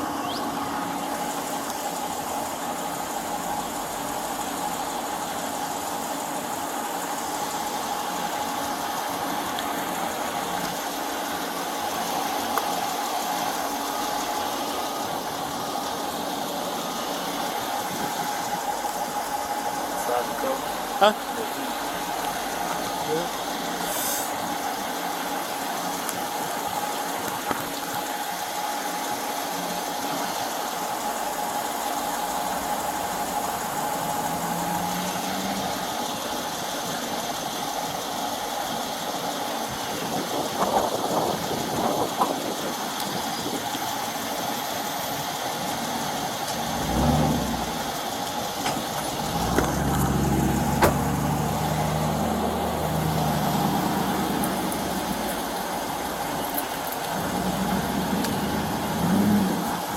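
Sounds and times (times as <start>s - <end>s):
vehicle engine humming: 0.0s - 59.9s.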